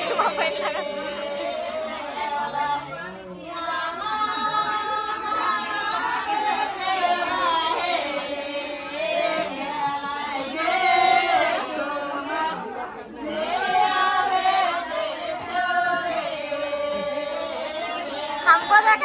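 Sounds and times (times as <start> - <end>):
women singing folk song: 0.0 - 19.0.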